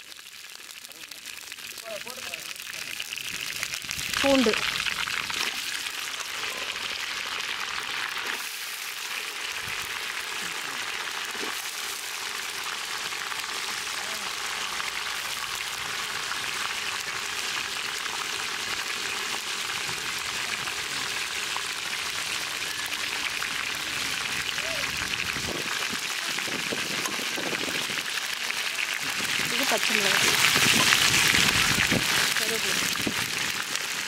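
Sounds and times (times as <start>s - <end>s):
garlic sizzling in hot oil: 0.0s - 34.0s.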